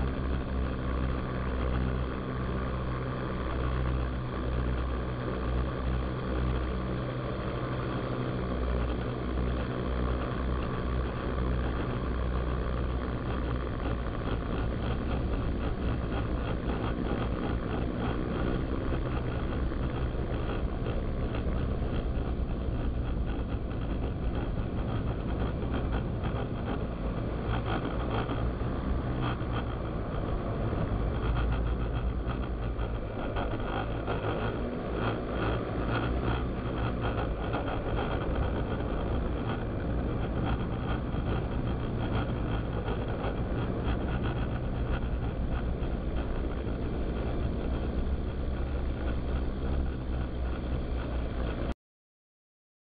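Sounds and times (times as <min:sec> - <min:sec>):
quadcopter motors and propellers: 0:00.0 - 0:51.7
wind rumble on microphone: 0:00.0 - 0:51.8.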